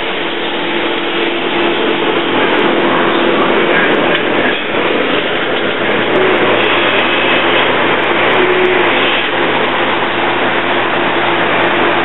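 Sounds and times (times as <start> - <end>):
constant low hum: 0.0 - 12.0
machinery running: 0.0 - 12.0.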